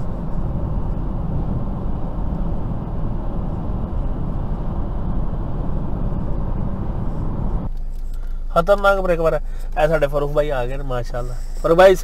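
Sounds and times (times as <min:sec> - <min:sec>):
road and tyre noise in car: 0:00.0 - 0:12.0.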